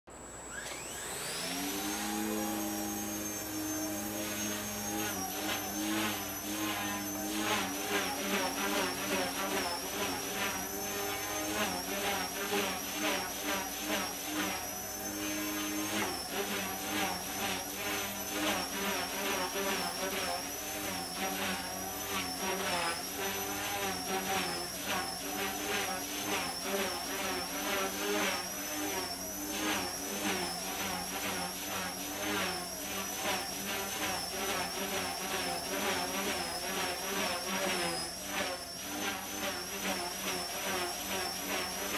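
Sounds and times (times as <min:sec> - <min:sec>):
rc helicopter motor whine: 0:00.1 - 0:41.9
rotor buzz: 0:00.1 - 0:41.9.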